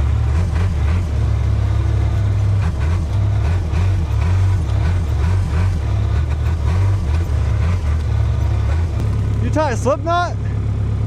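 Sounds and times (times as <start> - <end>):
heavy equipment engine rumbling: 0.0 - 11.0.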